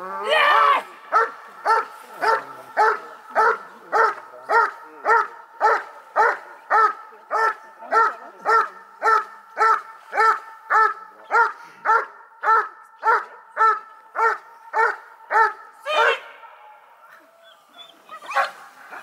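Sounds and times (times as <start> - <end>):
dog barking: 1.1 - 16.3, 17.8 - 19.0.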